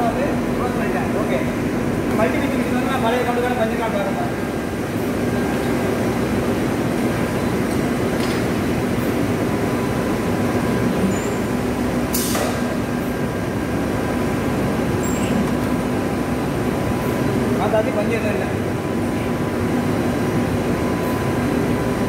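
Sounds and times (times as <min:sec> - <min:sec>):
machinery air rush and hum: 0:00.0 - 0:22.0.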